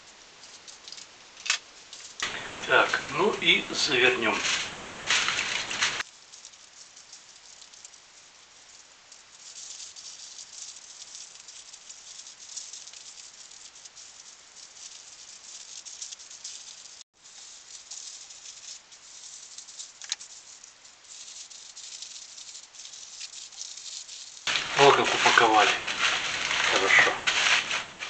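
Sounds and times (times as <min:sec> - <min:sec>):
aluminium foil crinkling: 0:00.0 - 0:28.0.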